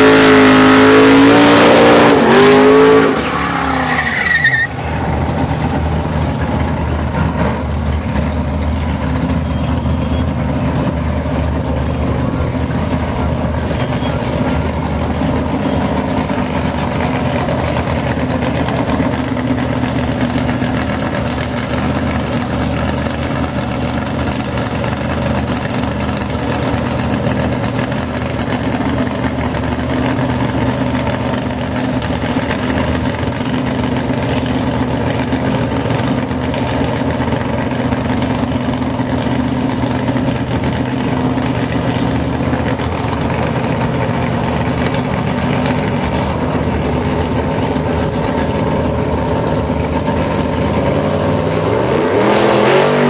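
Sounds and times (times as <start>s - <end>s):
car engine idling: 3.4s - 51.9s.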